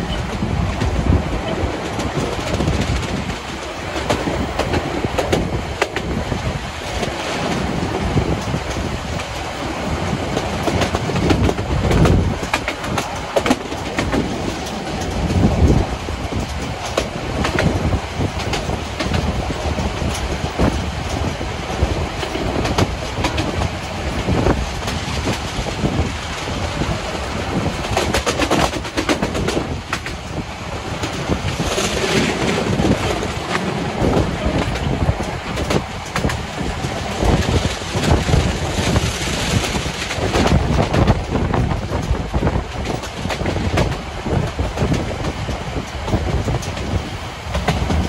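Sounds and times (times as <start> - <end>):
train wheels clattering over rail joints: 0.0 - 48.0.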